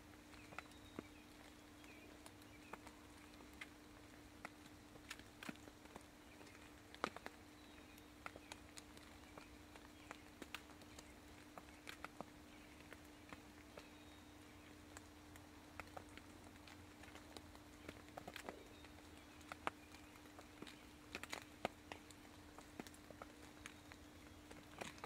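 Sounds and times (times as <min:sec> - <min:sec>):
ticks and taps in leaf litter: 0:00.0 - 0:25.0.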